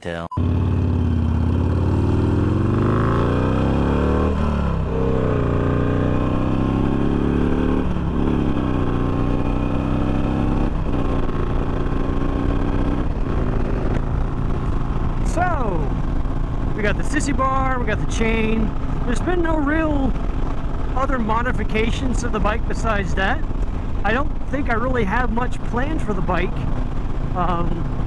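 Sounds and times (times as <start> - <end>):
motorcycle engine accelerating: 0.3 - 28.0.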